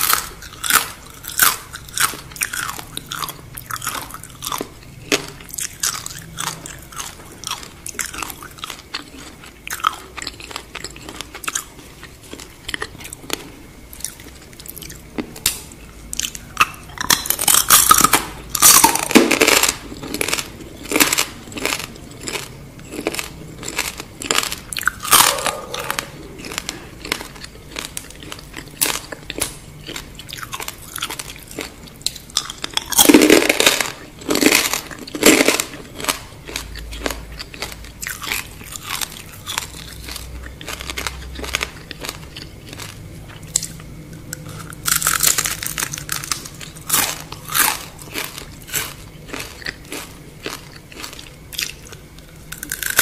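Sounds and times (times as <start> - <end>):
crunching and chewing: 0.0 - 53.0.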